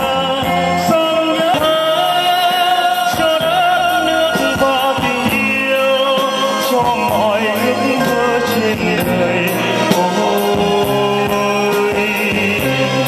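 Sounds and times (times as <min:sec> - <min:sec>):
guitar: 0:00.0 - 0:13.0
man singing into a microphone: 0:00.0 - 0:13.0.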